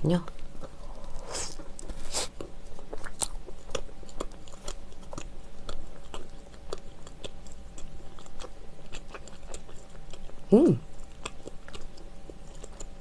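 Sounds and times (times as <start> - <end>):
close-up chewing with mouth clicks: 0.1 - 13.0.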